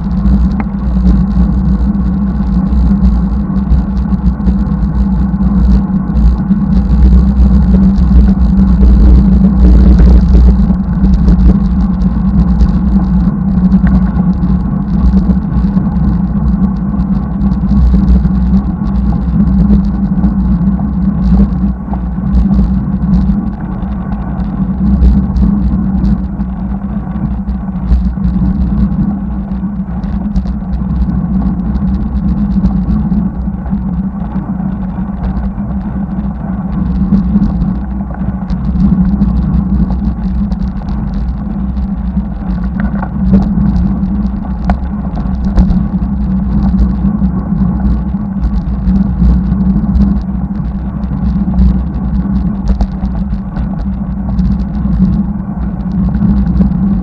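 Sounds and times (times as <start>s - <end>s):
bicycle tyre noise on road: 0.0s - 57.0s
wind rumble on microphone: 0.0s - 57.0s.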